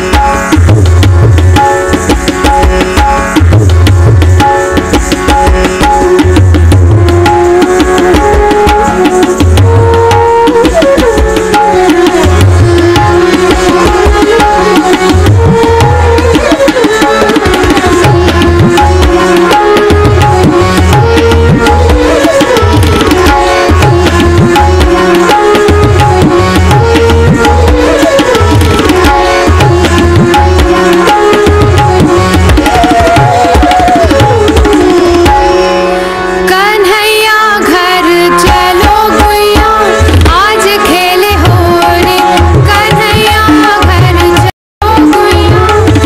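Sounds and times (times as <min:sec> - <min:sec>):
tabla steady rhythm: 0:00.0 - 0:46.0.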